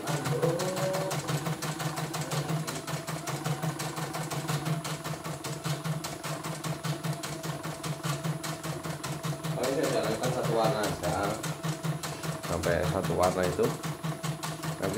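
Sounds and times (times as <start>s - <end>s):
embroidery machine needle clatter: 0.0s - 14.9s.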